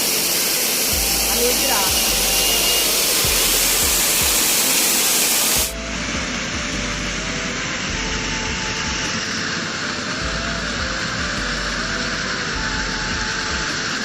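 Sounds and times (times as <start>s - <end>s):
loud rushing hiss: 0.0s - 14.0s.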